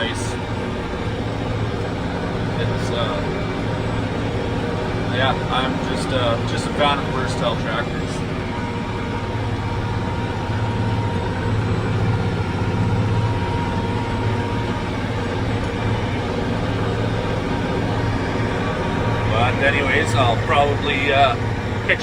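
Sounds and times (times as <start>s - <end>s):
thin steady whine: 0.0s - 22.0s
tractor engine deep drone: 0.0s - 22.0s.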